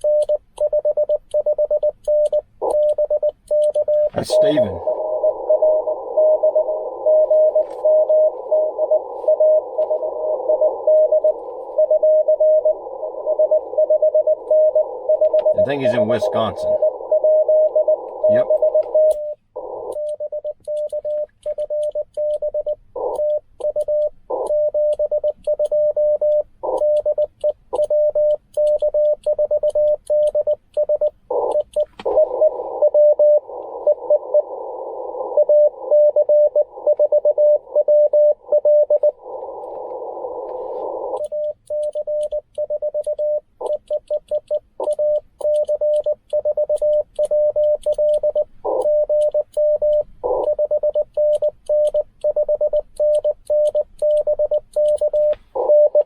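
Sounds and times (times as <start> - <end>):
morse code tone: 0.0 - 56.0
receiver hiss: 0.1 - 56.0.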